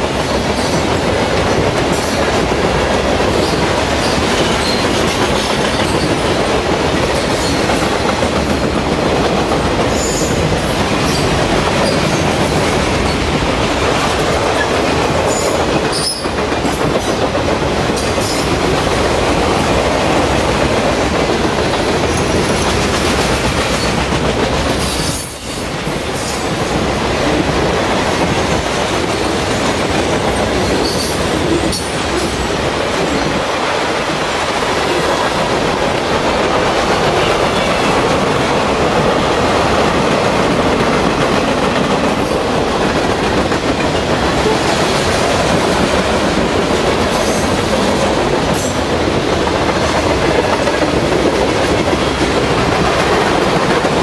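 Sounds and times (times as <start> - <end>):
freight train rumble and wheel clatter: 0.0 - 54.0.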